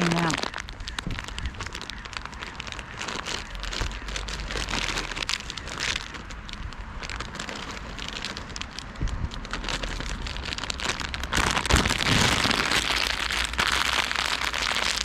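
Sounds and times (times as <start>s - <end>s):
rain drops falling: 0.0s - 15.0s.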